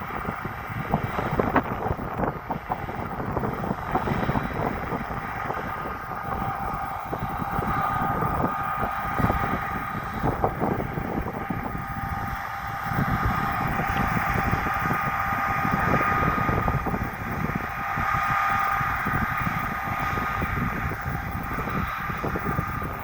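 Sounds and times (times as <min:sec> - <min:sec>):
combine harvester running: 0:00.0 - 0:23.0
wind buffeting microphone: 0:00.0 - 0:23.0.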